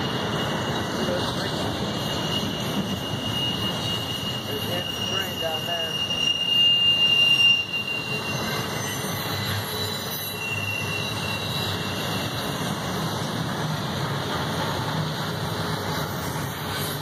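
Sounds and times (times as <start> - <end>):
freight train wheels rumbling: 0.0 - 17.0
high wheel squeal: 0.0 - 17.0.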